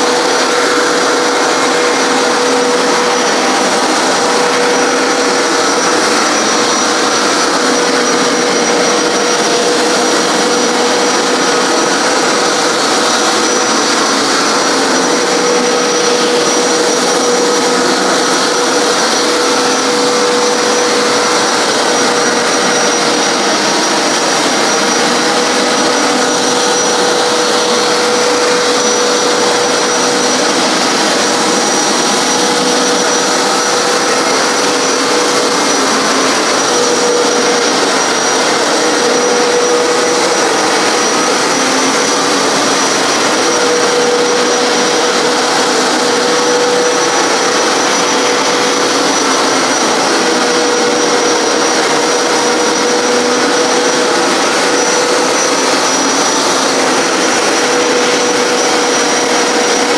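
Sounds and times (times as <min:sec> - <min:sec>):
carpet cleaner running: 0:00.0 - 0:59.9.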